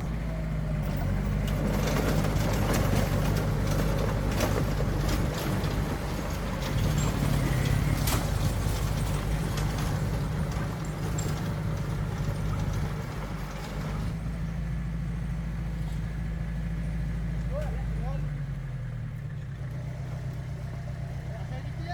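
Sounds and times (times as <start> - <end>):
diesel earthmoving machine running: 0.0 - 21.9.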